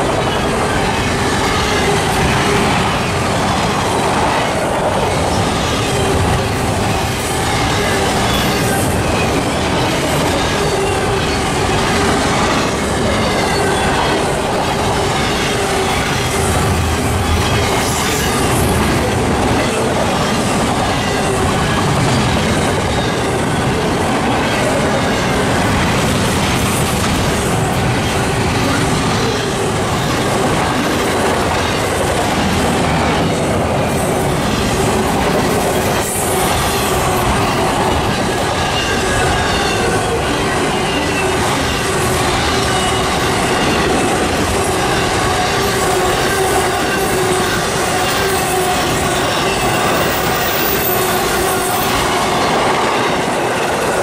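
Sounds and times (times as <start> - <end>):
steel train wheels on rails: 0.0 - 54.0.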